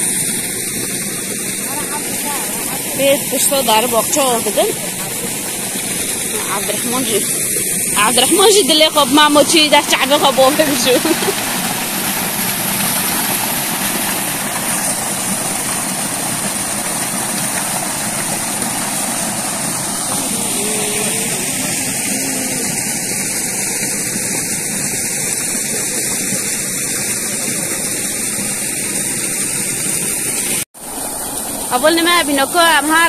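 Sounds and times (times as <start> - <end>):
water gushing from pipe: 0.0 - 33.0.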